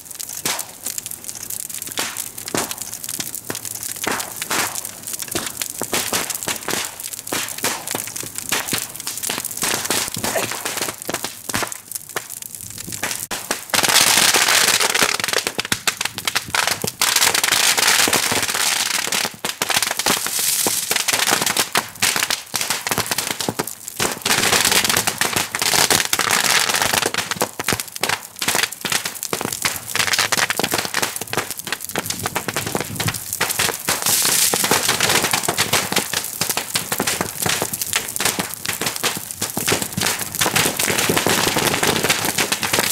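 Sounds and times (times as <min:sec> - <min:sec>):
firecrackers banging and crackling: 0:00.0 - 0:42.9.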